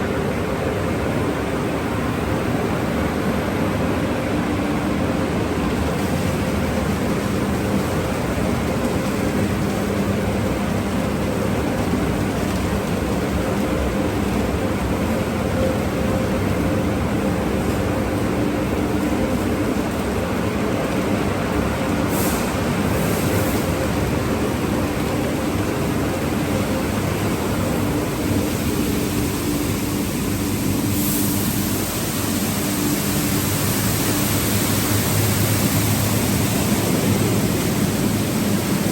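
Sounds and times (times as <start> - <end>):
car wash rushing hiss: 0.0 - 38.9
low machine hum: 0.0 - 38.9.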